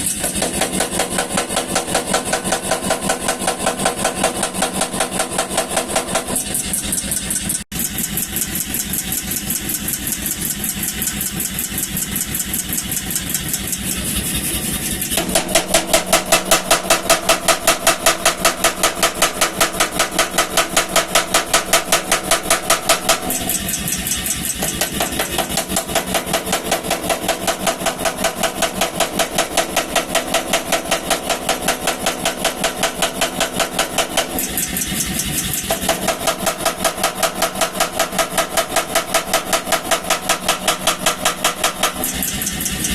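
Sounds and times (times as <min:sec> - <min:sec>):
power hammer blows forging steel: 0:00.0 - 0:42.9.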